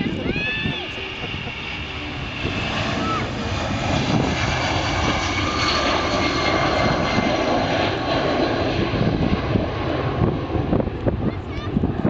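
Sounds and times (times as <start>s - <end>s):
faint high engine whine: 0.0s - 12.0s
jet engines roaring at takeoff: 0.0s - 12.0s.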